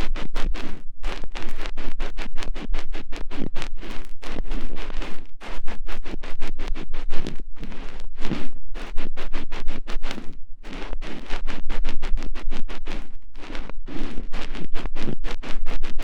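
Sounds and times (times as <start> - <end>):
ear pick scraping microphone: 0.0 - 16.0.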